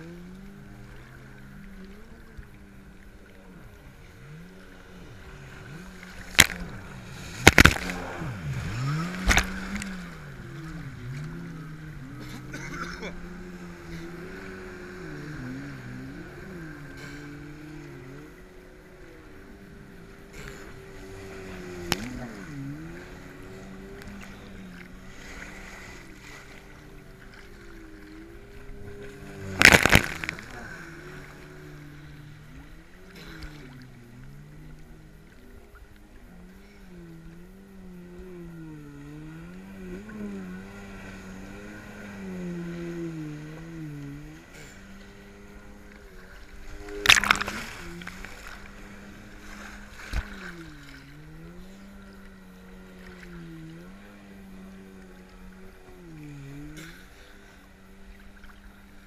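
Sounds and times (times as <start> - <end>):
jet ski engines: 0.0 - 59.0
water sloshing: 0.0 - 59.0.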